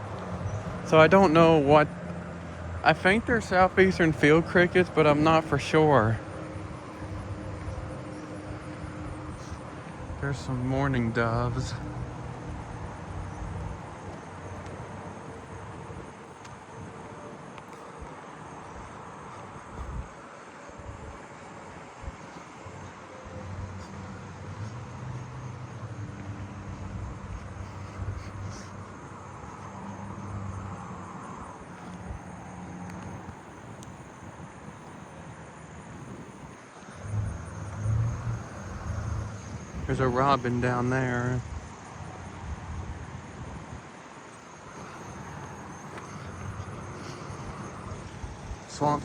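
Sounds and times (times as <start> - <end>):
crickets calling: 0.0 - 49.0
low outdoor hum: 0.0 - 49.0.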